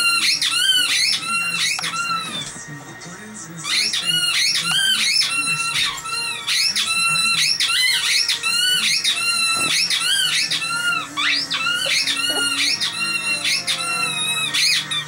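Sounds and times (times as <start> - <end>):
squeaky toy squeaking: 0.0 - 2.5, 3.6 - 15.0.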